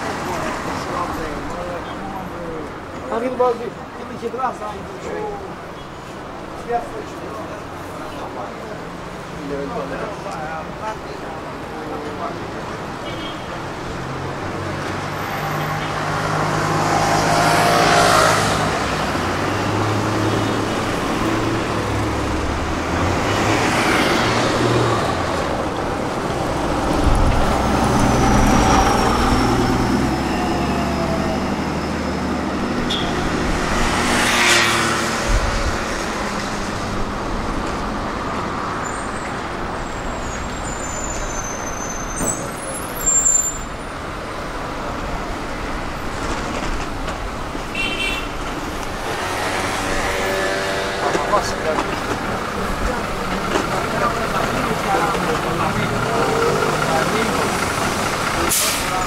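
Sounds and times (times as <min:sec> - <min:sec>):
vehicles passing close by: 0:00.0 - 0:59.0.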